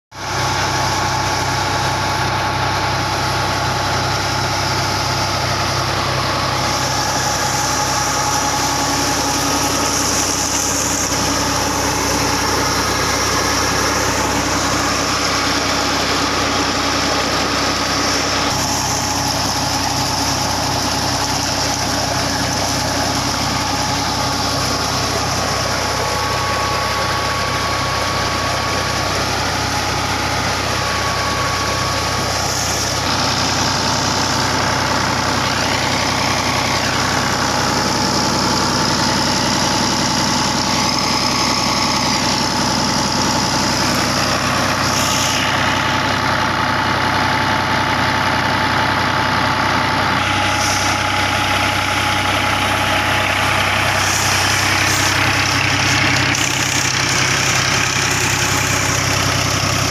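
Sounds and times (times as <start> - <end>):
diesel tractor engine running: 0.1 - 59.9.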